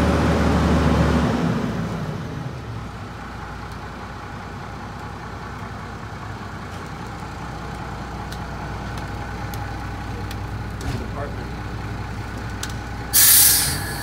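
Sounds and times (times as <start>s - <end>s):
garbage truck engine drone: 0.0s - 14.0s.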